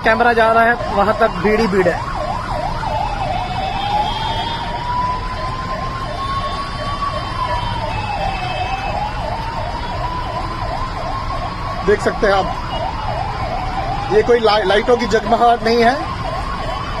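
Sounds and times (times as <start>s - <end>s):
low rumble of traffic: 0.0s - 17.0s
wailing siren: 0.0s - 17.0s
fast yelping siren: 0.1s - 17.0s.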